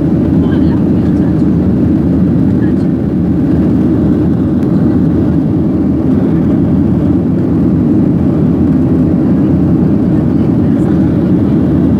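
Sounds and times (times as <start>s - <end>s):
jet airliner cabin engine noise: 0.0s - 11.9s.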